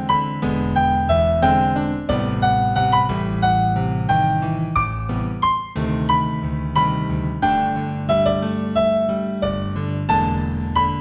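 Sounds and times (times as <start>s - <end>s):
gentle piano piece: 0.0s - 11.0s.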